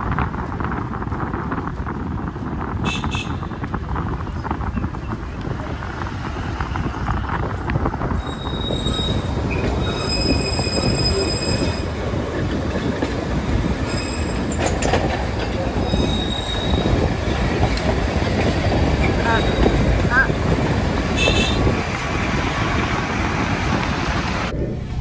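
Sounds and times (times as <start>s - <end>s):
train rumble: 0.0s - 25.0s
wheels squealing on rails: 2.9s - 24.5s.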